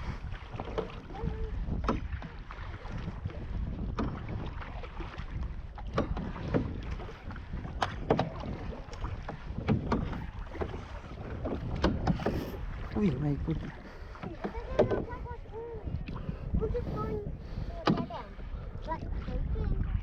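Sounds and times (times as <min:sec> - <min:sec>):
paddles splashing and knocking: 0:00.0 - 0:20.0
wind on microphone: 0:00.0 - 0:20.0.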